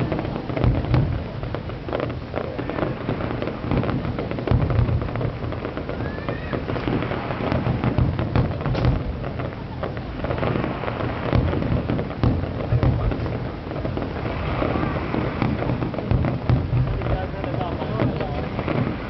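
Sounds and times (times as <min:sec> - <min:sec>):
fireworks booming and cracking: 0:00.0 - 0:19.0
fireworks crackling: 0:00.0 - 0:19.0.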